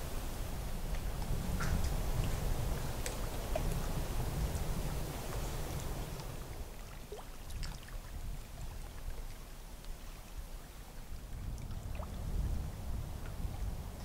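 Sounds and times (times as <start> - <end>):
wind on microphone: 0.0 - 14.0
water lapping at shore: 0.9 - 14.0.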